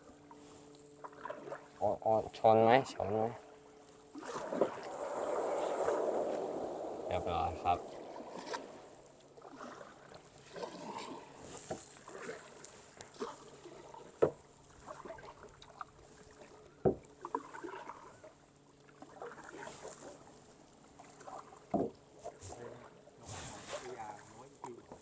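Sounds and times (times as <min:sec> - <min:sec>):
paddle splashing in water: 0:01.0 - 0:01.8, 0:04.1 - 0:24.9.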